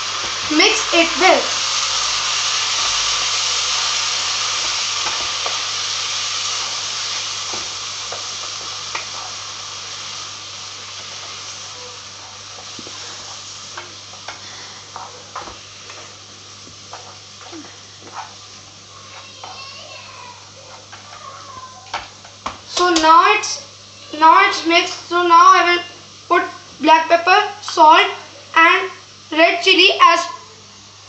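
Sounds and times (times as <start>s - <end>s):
puree sizzling in a pan: 0.0s - 31.0s.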